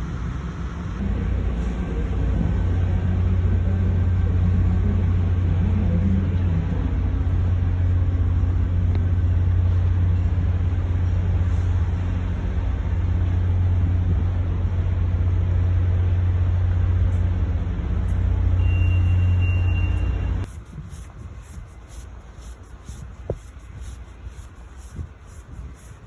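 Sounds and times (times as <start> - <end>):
train low rumble: 0.0 - 26.0.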